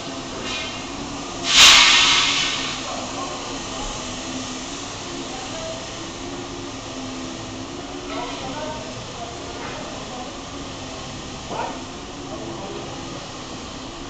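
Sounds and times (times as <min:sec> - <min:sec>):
building site noise: 0:00.0 - 0:14.0
loud burst of hiss: 0:00.0 - 0:14.0.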